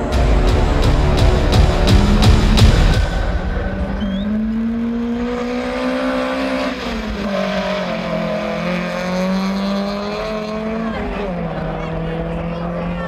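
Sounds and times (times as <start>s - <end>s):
car engine accelerating at full throttle: 0.0s - 13.0s.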